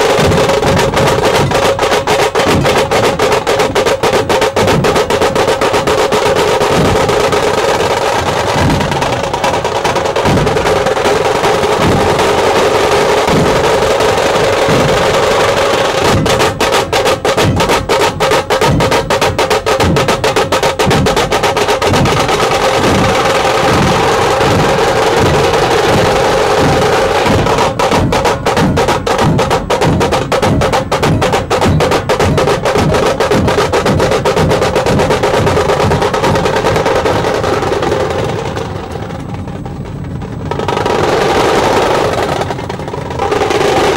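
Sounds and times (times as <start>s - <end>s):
deep drum beats: 0.0s - 43.9s
rapid drum roll: 0.0s - 43.9s.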